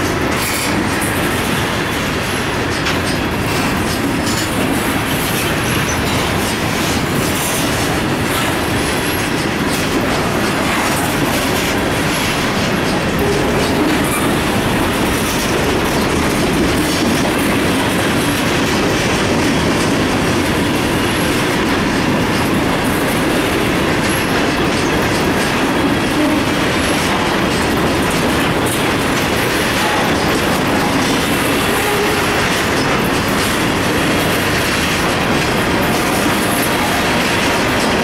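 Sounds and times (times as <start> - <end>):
freight train wheels rumbling and clicking: 0.0 - 38.0.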